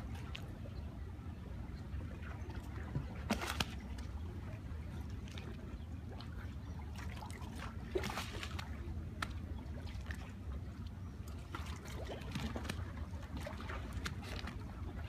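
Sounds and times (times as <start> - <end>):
water lapping against hulls: 0.0 - 15.0.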